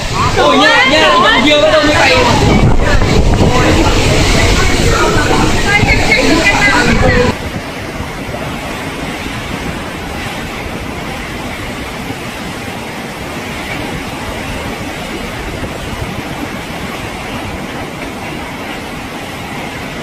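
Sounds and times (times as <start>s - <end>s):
heavy wind-driven rain: 0.0s - 20.0s
storm wind: 0.0s - 20.0s.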